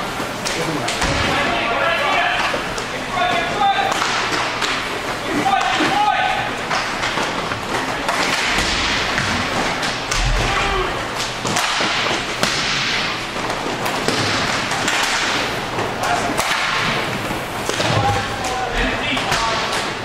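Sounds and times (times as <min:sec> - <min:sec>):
sticks and puck clacking: 0:00.1 - 0:20.0.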